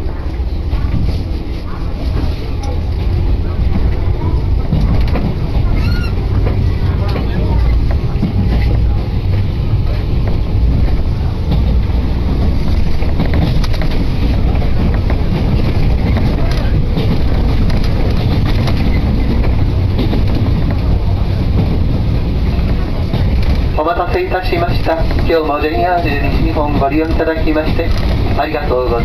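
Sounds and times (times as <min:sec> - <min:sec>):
train carriage low rumble: 0:00.0 - 0:29.0.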